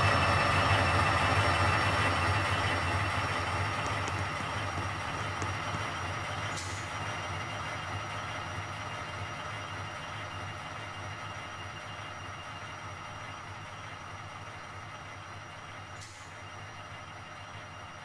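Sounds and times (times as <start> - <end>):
train running with high whine: 0.0 - 18.0.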